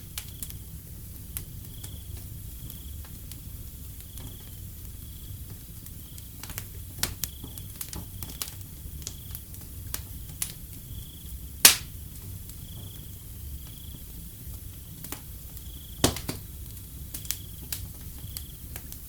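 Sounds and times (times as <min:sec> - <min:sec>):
wood fire crackling and popping: 0:00.0 - 0:19.0
cricket chirping: 0:01.6 - 0:09.5, 0:10.1 - 0:18.8.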